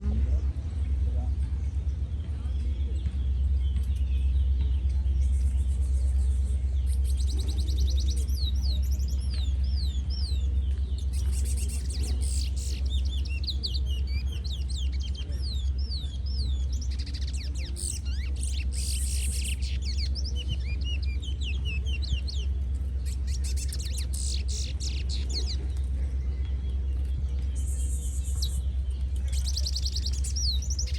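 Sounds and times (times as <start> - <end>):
caged birds chirping: 0.0 - 30.9
steady low rumble: 0.0 - 30.9.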